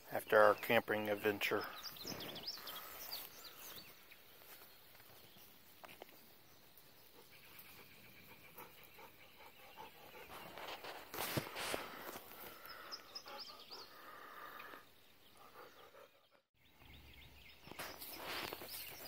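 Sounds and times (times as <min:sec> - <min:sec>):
bird chirps: 0:00.0 - 0:19.0.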